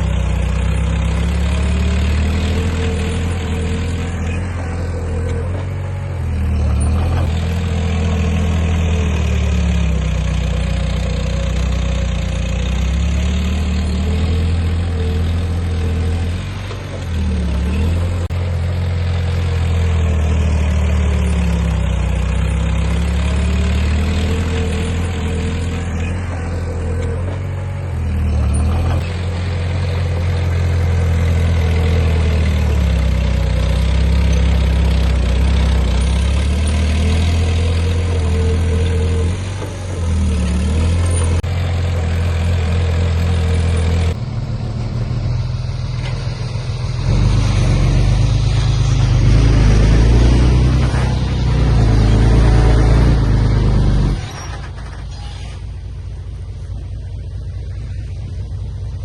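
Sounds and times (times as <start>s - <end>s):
heavy diesel machinery droning: 0.0s - 59.0s.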